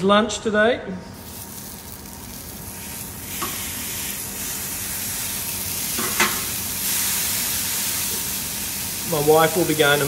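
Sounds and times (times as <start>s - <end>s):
steaks sizzling in a pan: 1.2s - 10.0s.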